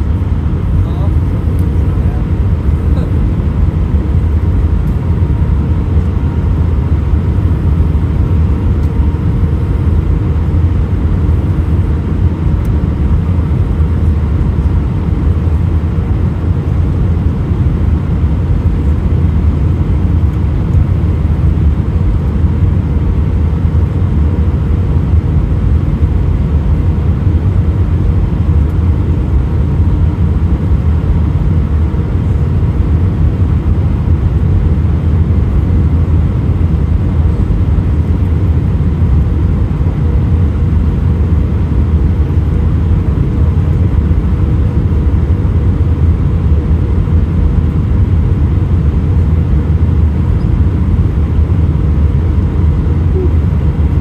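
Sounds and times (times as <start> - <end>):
engine and airflow rumble: 0.0 - 54.0
faint steady hum: 0.0 - 54.0.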